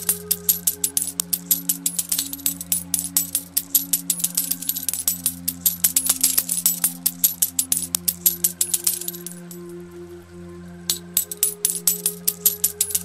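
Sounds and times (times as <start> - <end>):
coins clinking as they fall: 0.0 - 9.7, 10.9 - 13.0
slow music of low held notes: 0.0 - 13.0.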